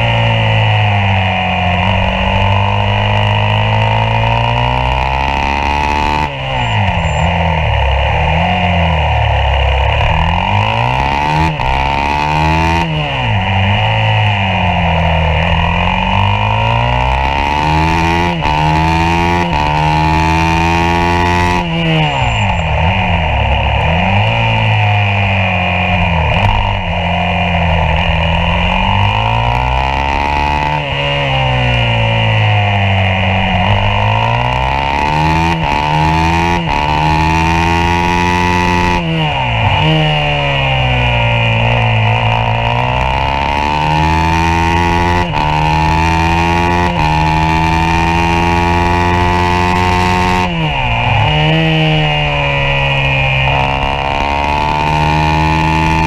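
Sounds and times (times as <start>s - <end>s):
motorcycle engine at racing revs: 0.0s - 56.0s.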